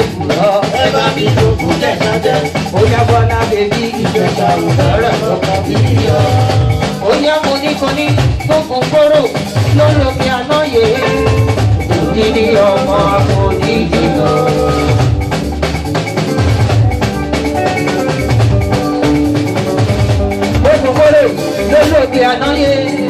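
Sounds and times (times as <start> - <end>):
dance band music: 0.0 - 23.0.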